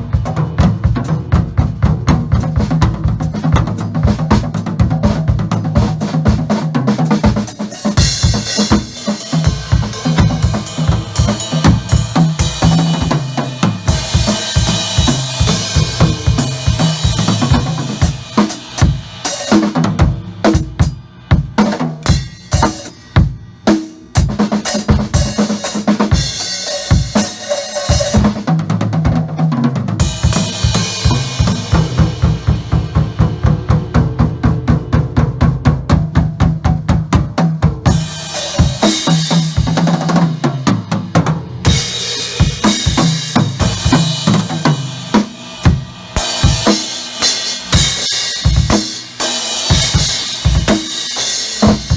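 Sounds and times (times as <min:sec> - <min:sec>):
fast tom strokes: 0:00.0 - 0:28.5, 0:29.9 - 0:51.9
drum kit playing: 0:00.0 - 0:51.9
cymbals: 0:05.3 - 0:28.5, 0:30.0 - 0:37.2, 0:37.8 - 0:51.9.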